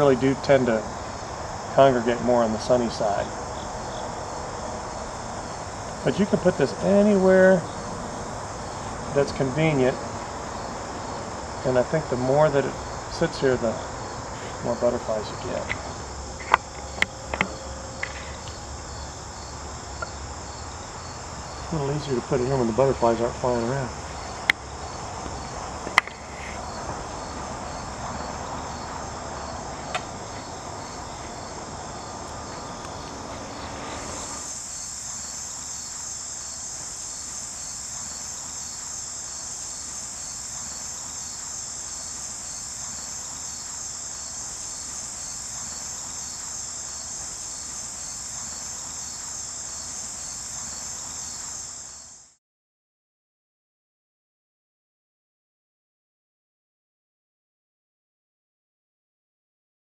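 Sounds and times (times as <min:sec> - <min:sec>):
crickets chirping: 0:00.0 - 0:52.4.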